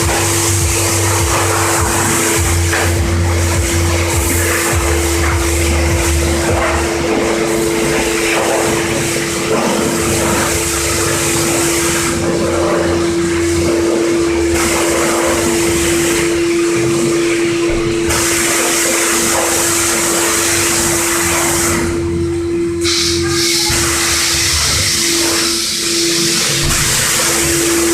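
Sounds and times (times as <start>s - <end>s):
water spray hissing: 0.0s - 22.0s, 22.8s - 27.9s
pressure washer pump hum: 0.0s - 27.9s.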